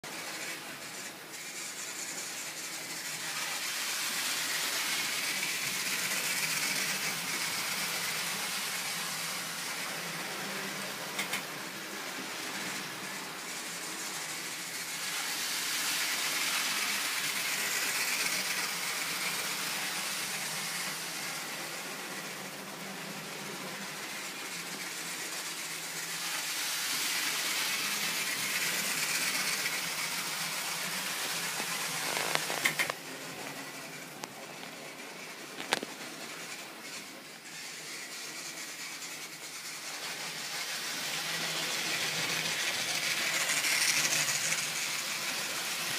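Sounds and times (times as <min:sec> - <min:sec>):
model train whirring on rails: 0:00.0 - 0:45.9.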